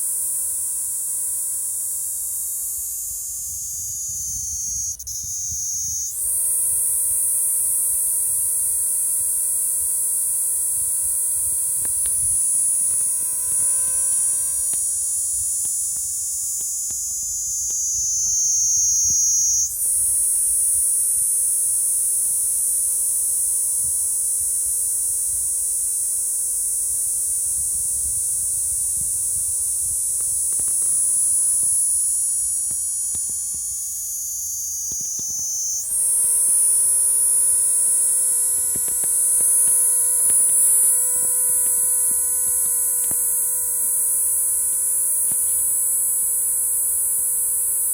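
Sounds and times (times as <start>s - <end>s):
cicada shrill buzzing: 0.0s - 47.9s.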